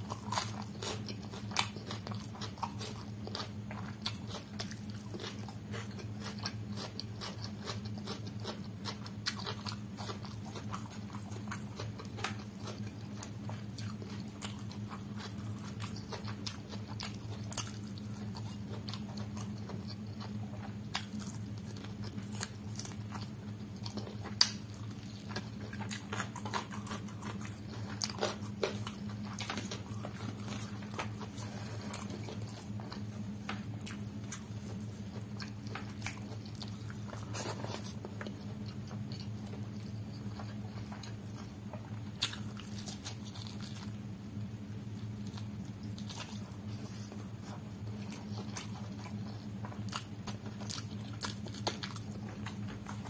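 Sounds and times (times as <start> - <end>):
chewing and wet mouth sounds: 0.0 - 53.0
steady low hum: 0.0 - 53.0.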